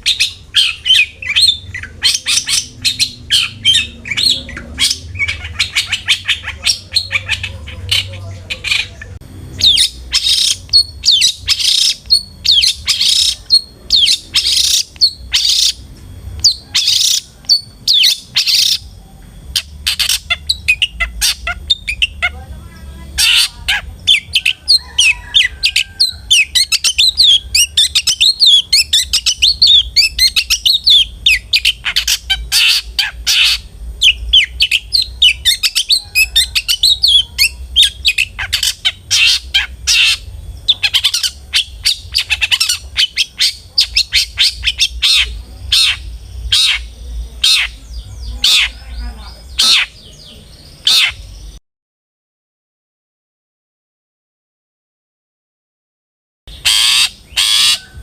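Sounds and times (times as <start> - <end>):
bird singing harsh squawky notes: 0.0 - 51.6, 56.5 - 58.0.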